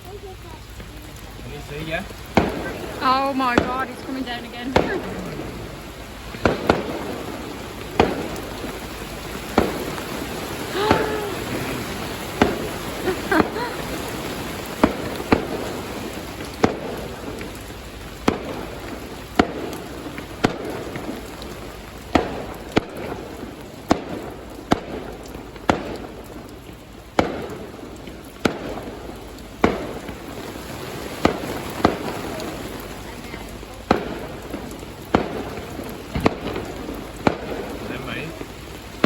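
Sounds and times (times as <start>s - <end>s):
fireworks exploding: 0.0s - 39.0s
rain falling: 0.0s - 39.0s.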